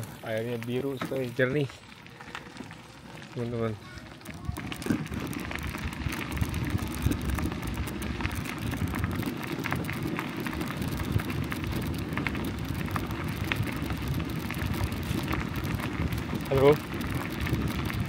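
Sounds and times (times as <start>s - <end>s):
bicycle tyres crunching on gravel: 0.0s - 18.0s.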